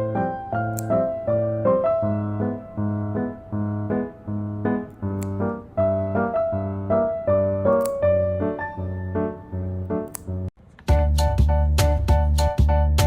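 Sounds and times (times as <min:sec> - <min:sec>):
bouncy piano music: 0:00.0 - 0:13.0.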